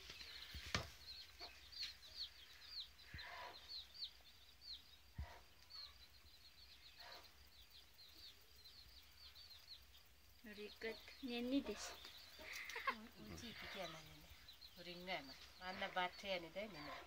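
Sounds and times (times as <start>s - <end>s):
small birds peeping: 0.0s - 17.0s.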